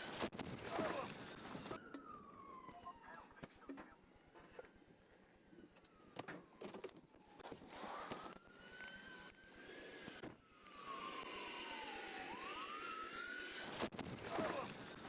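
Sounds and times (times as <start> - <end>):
siren wailing: 0.7 - 15.0.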